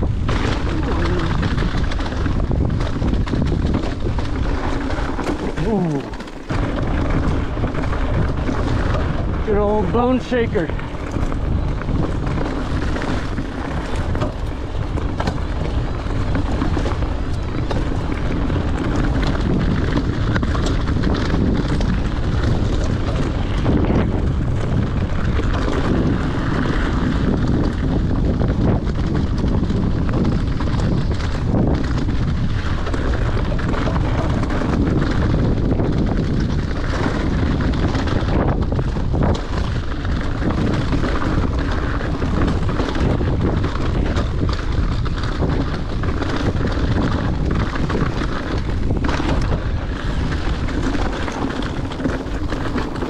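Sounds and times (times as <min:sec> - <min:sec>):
bike clicks and knocks: 0:00.0 - 0:53.0
bike tyres rolling on gravel: 0:00.0 - 0:53.0
wind on microphone: 0:00.0 - 0:53.0.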